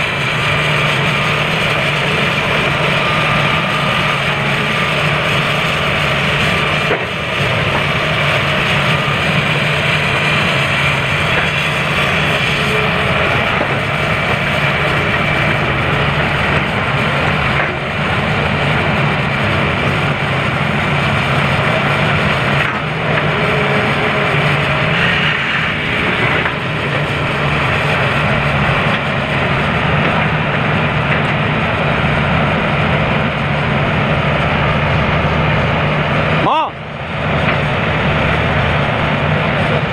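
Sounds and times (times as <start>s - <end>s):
excavator digging through rock: 0.0s - 36.0s
excavator diesel engine running: 0.0s - 39.9s.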